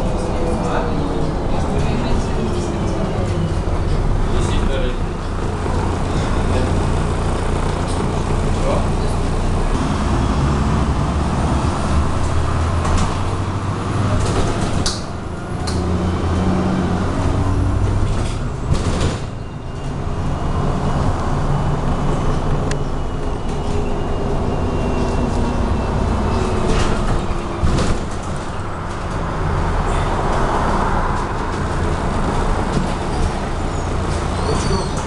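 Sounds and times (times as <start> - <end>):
bus diesel engine rumble: 0.0 - 35.0
road noise: 0.0 - 35.0.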